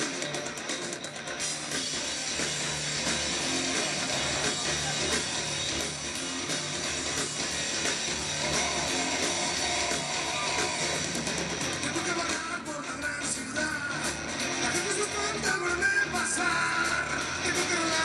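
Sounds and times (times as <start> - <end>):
electric guitar: 0.0 - 18.0
live rock band playing: 0.0 - 18.0.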